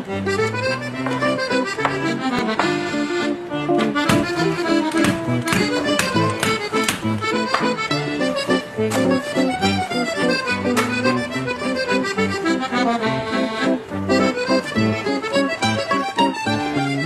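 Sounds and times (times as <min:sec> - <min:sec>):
folk-style instrumental music: 0:00.0 - 0:17.0.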